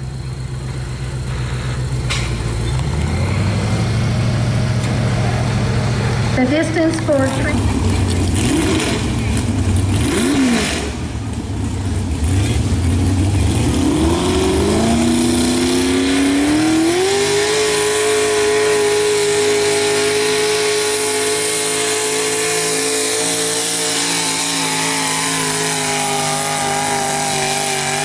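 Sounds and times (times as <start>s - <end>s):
truck engine revving under load: 0.0s - 28.0s.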